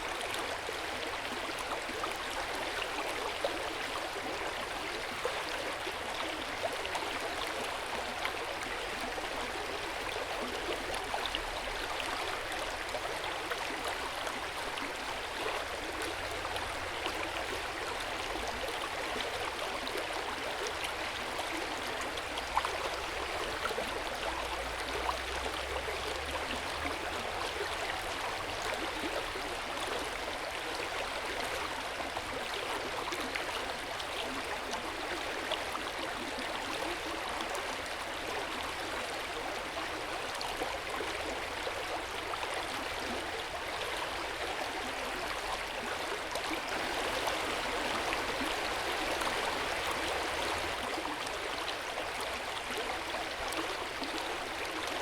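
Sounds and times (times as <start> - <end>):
water flowing and splashing: 0.1 - 55.0.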